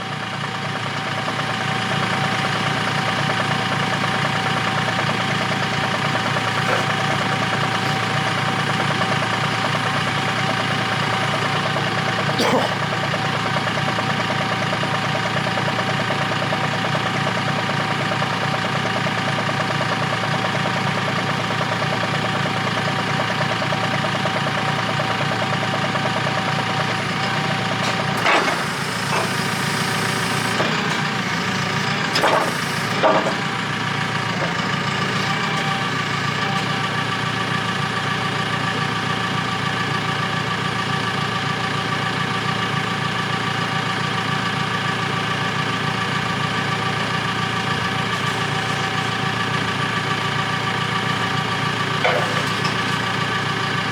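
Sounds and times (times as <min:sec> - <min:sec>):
forklift engine idling: 0:00.0 - 0:53.9.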